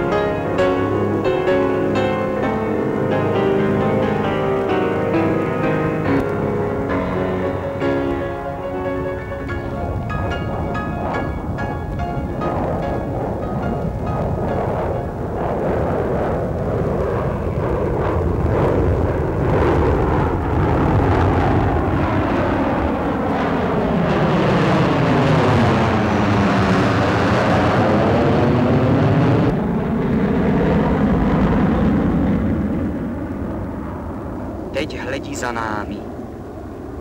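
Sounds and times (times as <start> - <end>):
jet aircraft roaring overhead: 0.0 - 37.0.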